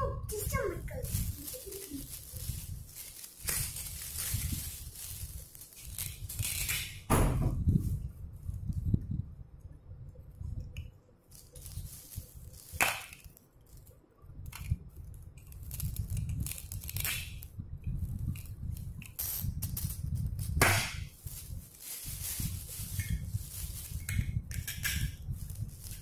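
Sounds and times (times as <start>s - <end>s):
small clicks and rustling: 0.4s - 7.0s, 10.6s - 20.6s, 21.2s - 26.0s.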